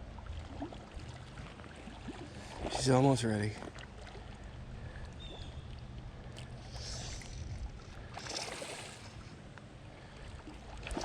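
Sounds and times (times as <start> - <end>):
water splashes: 0.0 - 9.4, 10.0 - 11.0
creek water running: 0.0 - 11.0.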